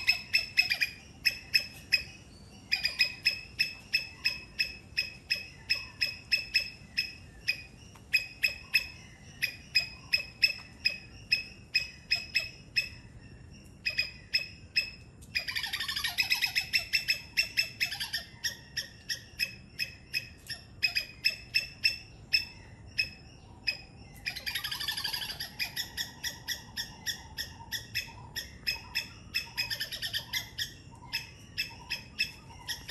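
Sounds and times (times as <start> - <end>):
squirrel chattering trill: 0.0 - 2.1, 2.7 - 13.0, 13.8 - 32.9
squirrel chirping: 0.0 - 32.9.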